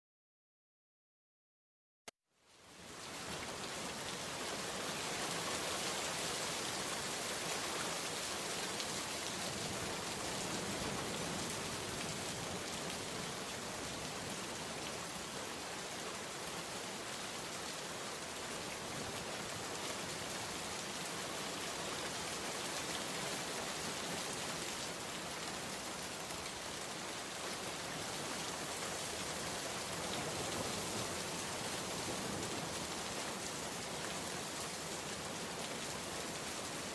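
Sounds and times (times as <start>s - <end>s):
heavy rain on water: 2.4s - 36.9s.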